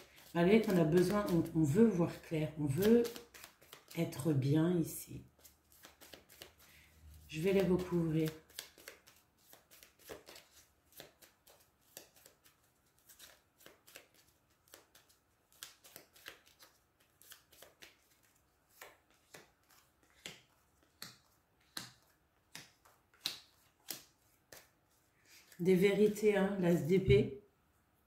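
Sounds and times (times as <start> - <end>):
cards shuffling: 0.0 - 4.0, 5.4 - 26.2.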